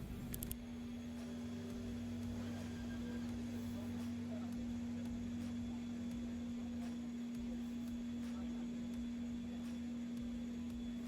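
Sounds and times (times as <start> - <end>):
machine hum pure tone: 0.0 - 11.0.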